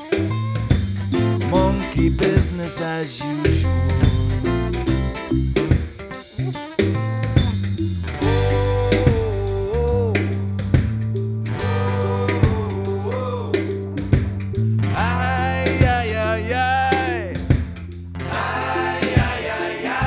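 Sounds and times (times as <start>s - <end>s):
instrumental guitar music with drums: 0.0s - 13.0s, 13.6s - 16.4s, 17.0s - 18.5s.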